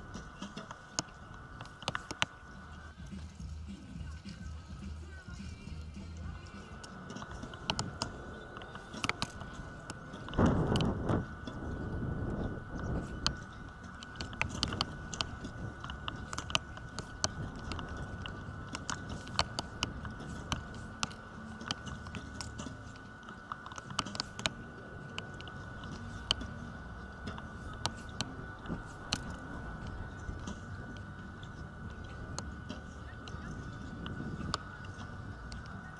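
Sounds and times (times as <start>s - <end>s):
sharp clicks and snaps: 0.1s - 3.4s, 5.5s - 11.6s, 12.6s - 35.9s
wind buffeting microphone: 5.5s - 35.9s.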